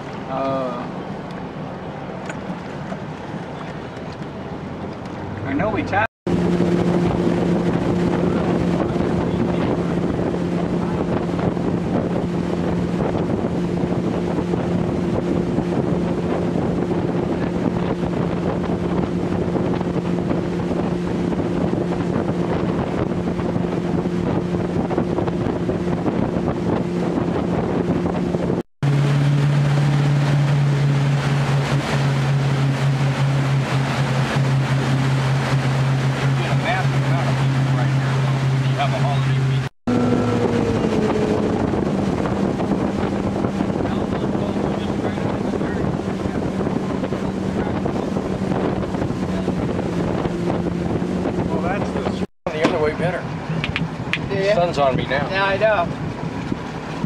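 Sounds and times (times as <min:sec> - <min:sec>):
motorboat engine droning: 0:00.0 - 0:57.0
wind noise on microphone: 0:02.3 - 0:57.0.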